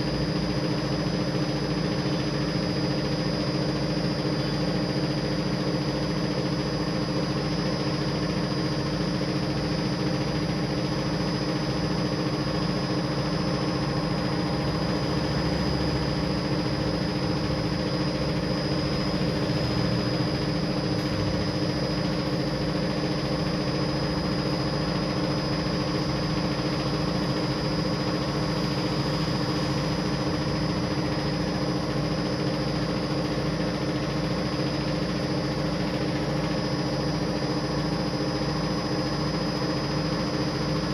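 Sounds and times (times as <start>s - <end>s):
carpet spinner motor hum and whine: 0.0s - 40.9s.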